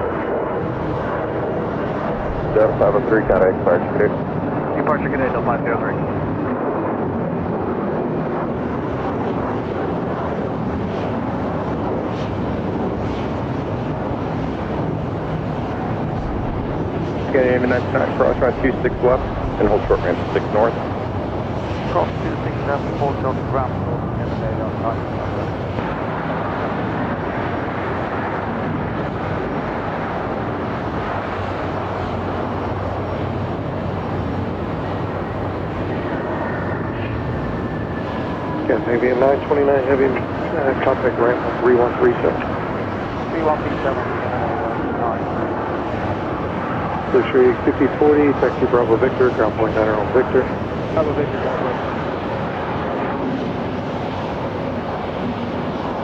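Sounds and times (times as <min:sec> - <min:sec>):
jet engine rumble: 0:00.0 - 0:56.0.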